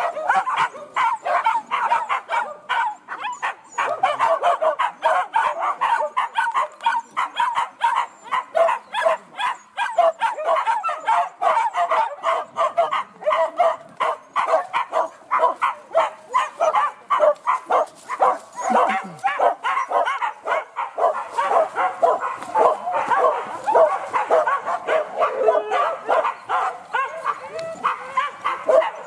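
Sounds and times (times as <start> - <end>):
dogs barking and yelping: 0.0 - 29.0.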